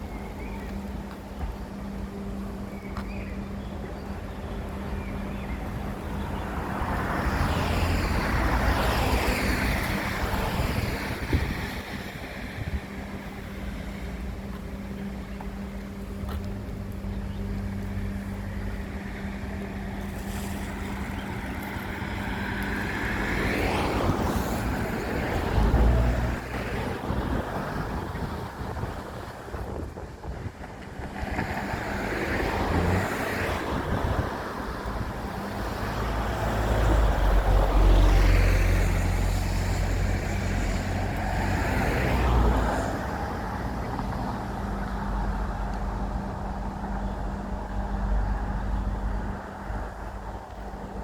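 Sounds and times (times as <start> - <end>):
vehicles passing by: 0.0 - 51.0.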